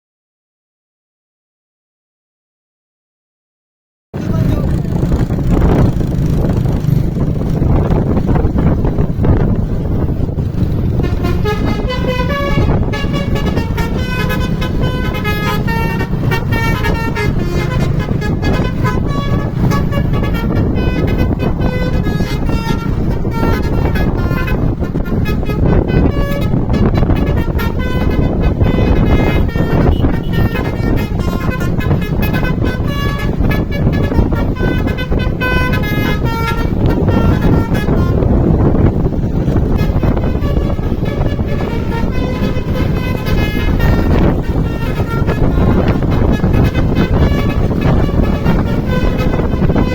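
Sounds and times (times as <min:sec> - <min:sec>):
bus melodic horn: 0:04.2 - 0:49.9
engine and road rumble: 0:04.2 - 0:49.9.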